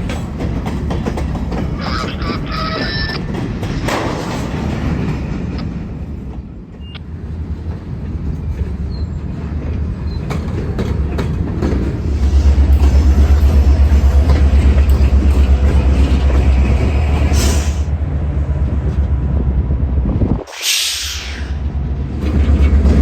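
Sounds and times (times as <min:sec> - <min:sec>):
diesel locomotive engine rumbling: 0:00.0 - 0:23.0.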